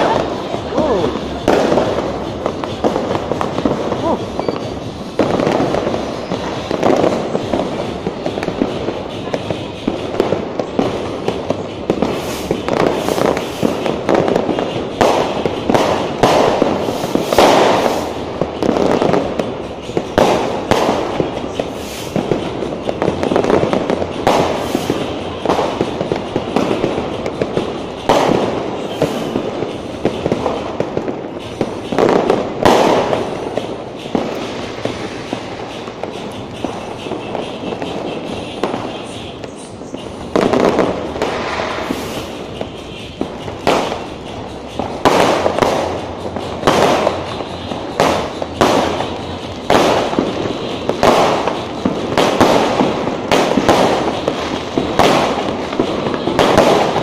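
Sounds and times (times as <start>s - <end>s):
fireworks exploding: 0.0s - 57.0s.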